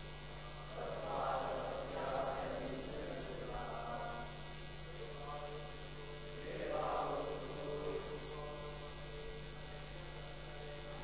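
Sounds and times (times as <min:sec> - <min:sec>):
electrical mains hum: 0:00.0 - 0:11.0
faint voices: 0:00.4 - 0:11.0.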